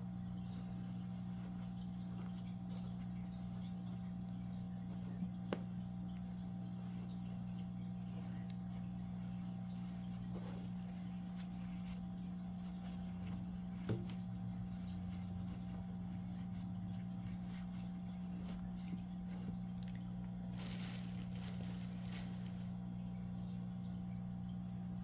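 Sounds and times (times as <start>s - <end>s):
rustling and squishing of stuffing: 0.0s - 24.1s
steady low hum: 0.0s - 25.0s.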